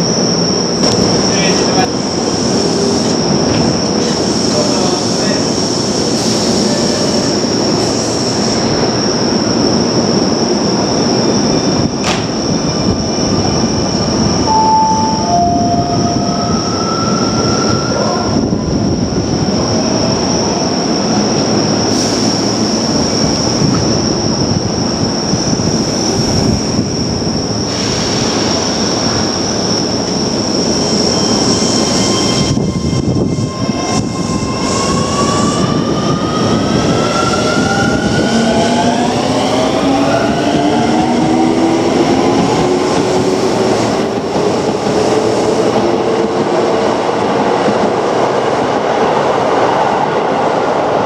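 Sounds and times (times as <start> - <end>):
electric train rumbling on rails: 0.0 - 51.0
high whine of train: 0.0 - 51.0.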